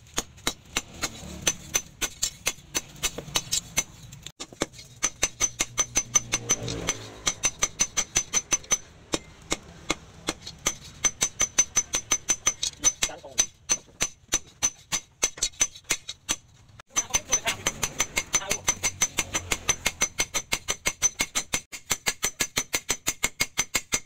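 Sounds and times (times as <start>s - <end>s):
hammer striking metal on anvil: 0.0s - 24.0s.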